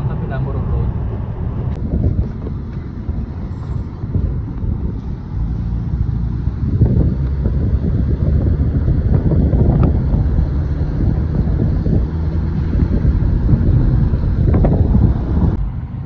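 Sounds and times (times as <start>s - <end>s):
road rumble: 0.0s - 16.0s
wind buffeting microphone: 0.0s - 16.0s.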